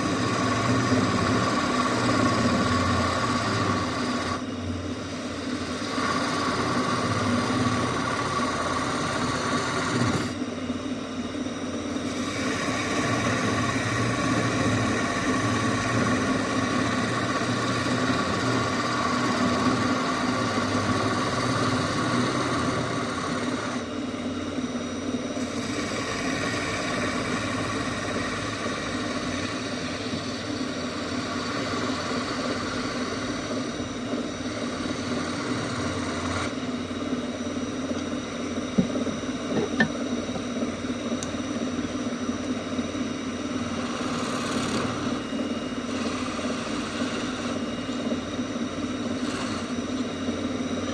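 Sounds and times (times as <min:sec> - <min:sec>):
turning tool cutting wood: 0:00.0 - 0:10.4, 0:11.9 - 0:24.1, 0:25.4 - 0:36.8, 0:43.6 - 0:50.9
wood lathe motor running: 0:00.0 - 0:10.5, 0:11.6 - 0:50.9.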